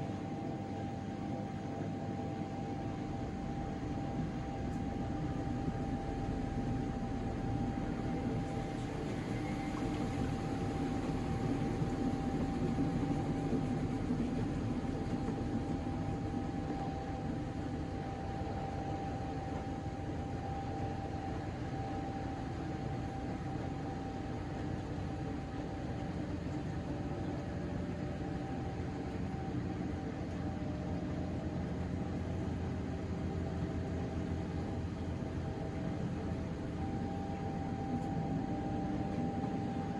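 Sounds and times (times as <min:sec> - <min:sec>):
washing machine hum and whine: 0:00.0 - 0:39.9.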